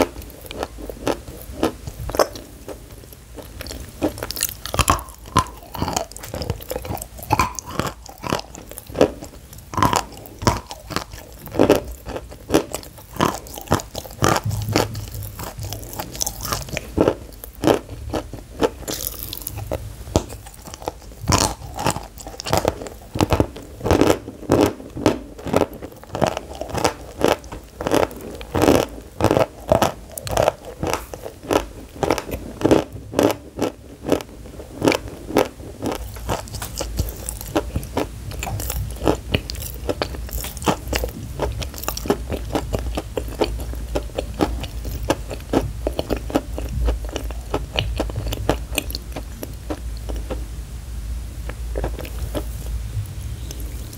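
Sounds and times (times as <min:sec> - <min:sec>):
chalk crunching chews: 0:00.0 - 0:50.5, 0:51.4 - 0:52.8.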